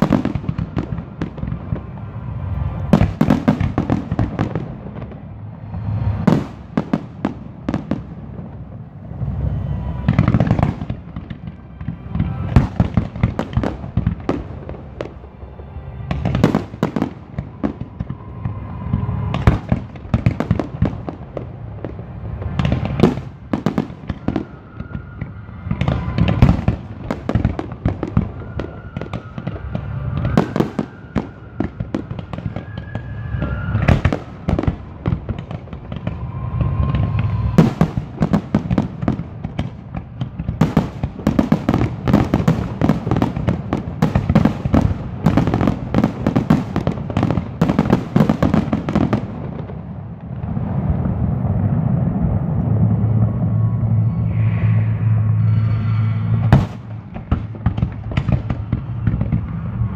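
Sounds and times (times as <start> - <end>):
fireworks booming and crackling: 0.0 - 59.9.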